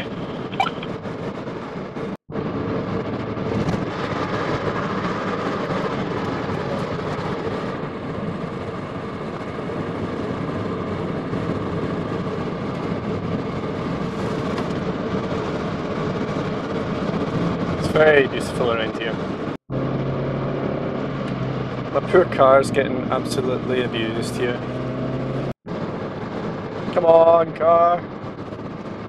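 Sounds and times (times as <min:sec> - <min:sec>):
car engine drone: 0:00.0 - 0:29.0
road noise in cabin: 0:00.0 - 0:29.0.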